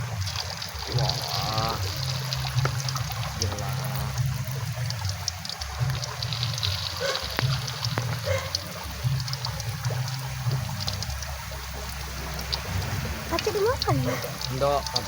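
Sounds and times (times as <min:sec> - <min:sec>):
battered leaves frying in oil: 0:00.0 - 0:15.0
oil popping and crackling: 0:00.0 - 0:15.0.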